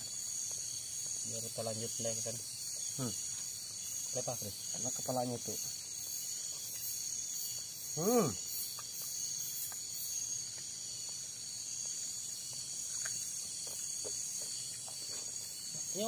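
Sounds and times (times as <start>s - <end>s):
insects trilling chorus: 0.0s - 16.0s.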